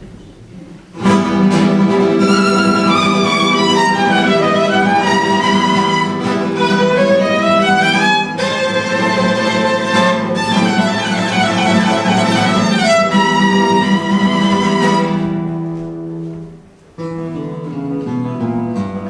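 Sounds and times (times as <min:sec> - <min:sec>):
guitar accompaniment: 0:00.0 - 0:19.0
violin melody: 0:01.0 - 0:16.4.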